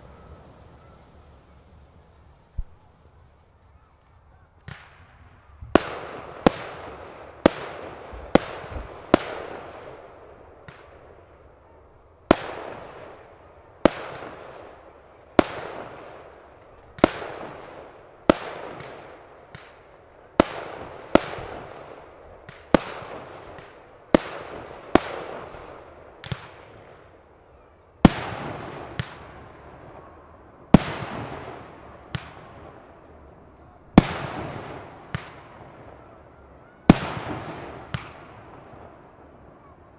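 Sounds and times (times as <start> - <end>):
aerial fireworks bursting: 0.0 - 3.8, 4.6 - 39.9.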